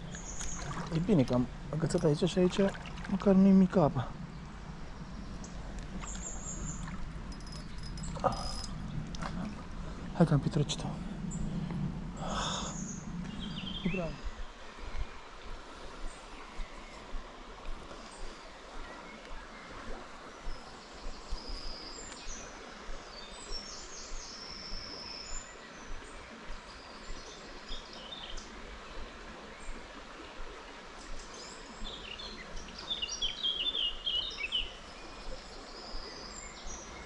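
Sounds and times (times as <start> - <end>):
forest stream running: 0.0 - 37.0
songbirds chirping and trilling: 0.0 - 37.0.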